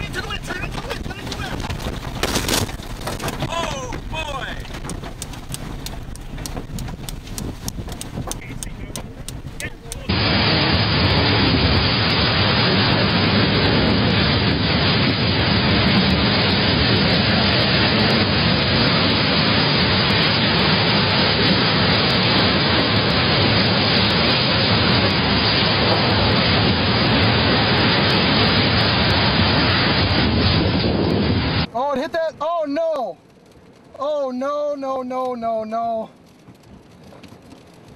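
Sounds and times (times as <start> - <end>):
strong wind blasting microphone: 0.0 - 32.4.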